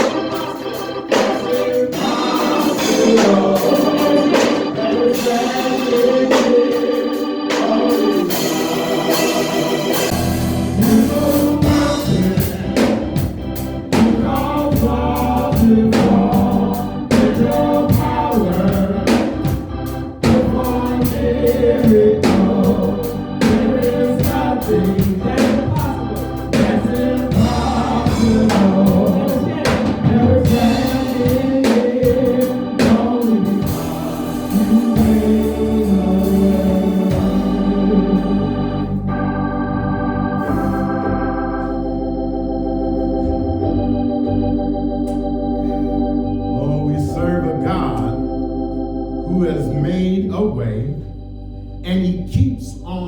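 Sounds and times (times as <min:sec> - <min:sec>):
gospel music with organ and voices: 0:00.0 - 0:53.0
heavy bass: 0:09.1 - 0:53.0.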